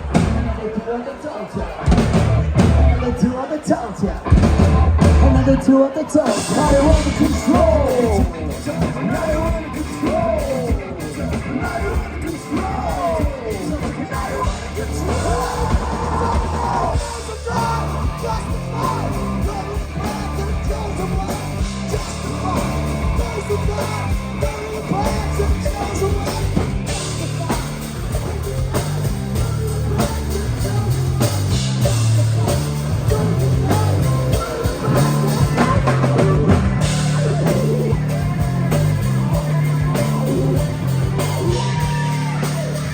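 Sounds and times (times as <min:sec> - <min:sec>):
stepping bass line: 0:00.0 - 0:00.6, 0:01.8 - 0:03.3, 0:04.2 - 0:05.7, 0:06.3 - 0:42.9
live rock band playing: 0:00.0 - 0:42.9
person singing: 0:00.0 - 0:42.9.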